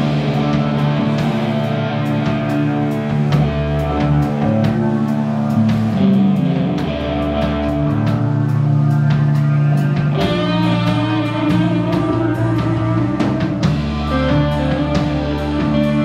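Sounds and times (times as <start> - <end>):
drum kit: 0.0 - 16.0
electric guitar sustained notes: 0.0 - 16.0.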